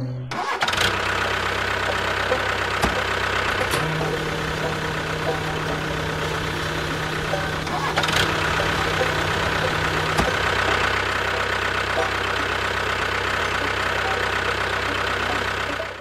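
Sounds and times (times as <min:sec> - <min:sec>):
low hum: 0:00.0 - 0:16.0
motor running with steady drone: 0:00.6 - 0:16.0.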